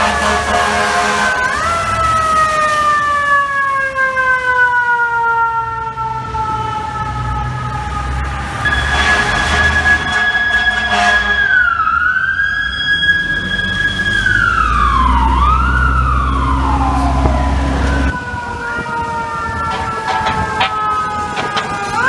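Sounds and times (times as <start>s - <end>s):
fire engine siren: 0.0s - 22.0s.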